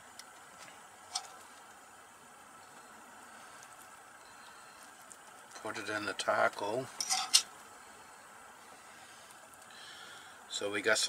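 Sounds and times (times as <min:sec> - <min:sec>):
gas burner hiss: 0:00.0 - 0:11.0.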